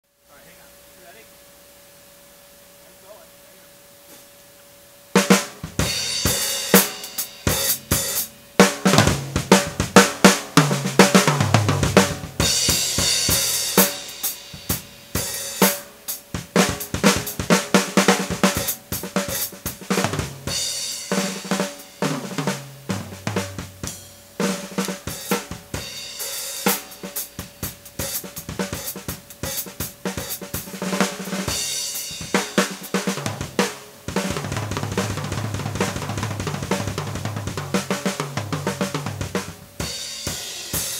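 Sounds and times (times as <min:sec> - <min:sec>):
drum kit beat: 0:05.0 - 0:40.9.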